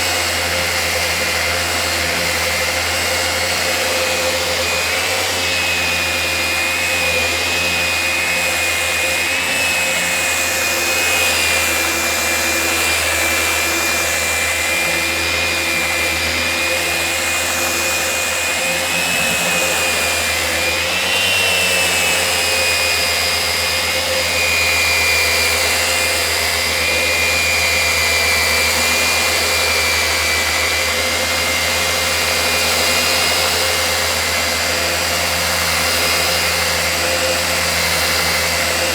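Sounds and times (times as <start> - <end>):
dust extractor running: 0.0 - 38.9
sander whining: 0.0 - 38.9.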